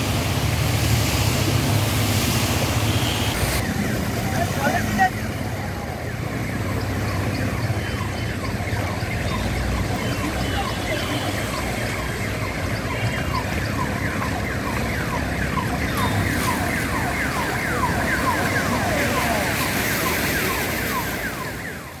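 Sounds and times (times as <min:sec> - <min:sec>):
traffic through floodwater: 0:00.0 - 0:22.0.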